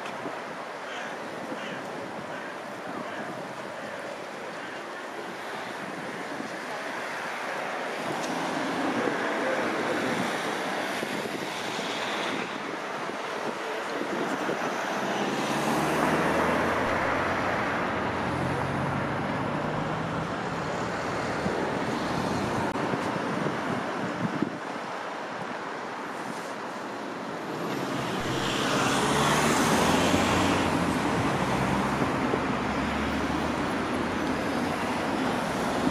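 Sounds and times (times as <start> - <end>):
street traffic passing: 0.0 - 35.9.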